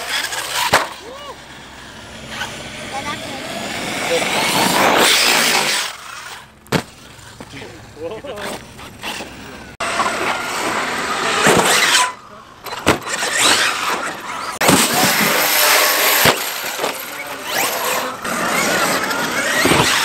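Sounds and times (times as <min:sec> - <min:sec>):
rc truck motors whining: 0:00.0 - 0:20.0
tyres churning loose dirt: 0:00.0 - 0:20.0.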